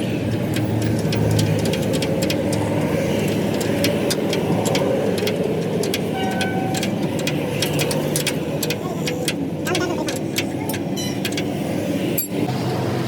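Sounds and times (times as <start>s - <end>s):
sharp irregular clicks: 0.0s - 12.4s
vehicle engine running: 0.0s - 13.0s.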